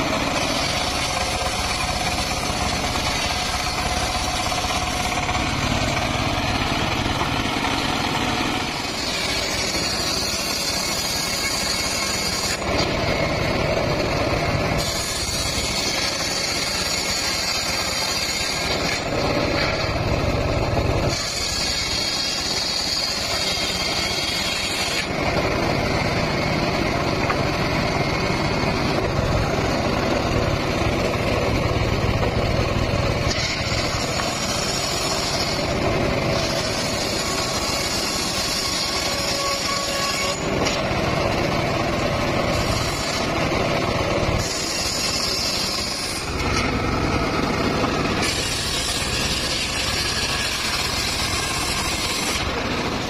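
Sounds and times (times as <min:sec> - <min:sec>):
circular saw ripping wood: 0:00.0 - 0:31.8, 0:32.8 - 0:53.0.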